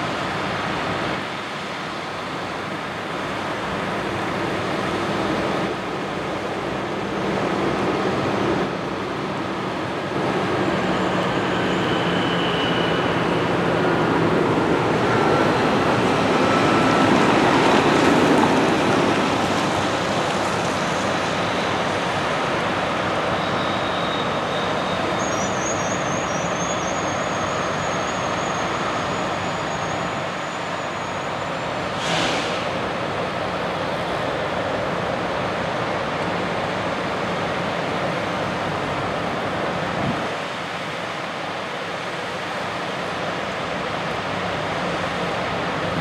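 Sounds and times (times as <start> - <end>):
farm machinery drone: 0.0 - 46.0.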